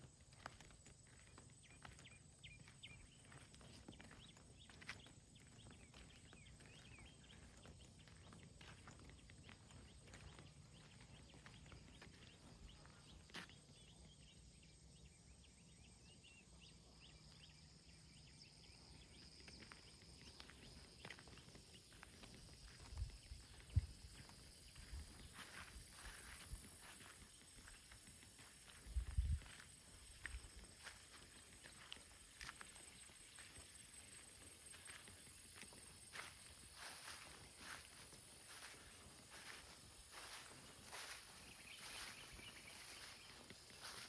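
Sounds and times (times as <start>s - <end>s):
soft footsteps: 0.0s - 14.2s, 19.2s - 44.0s.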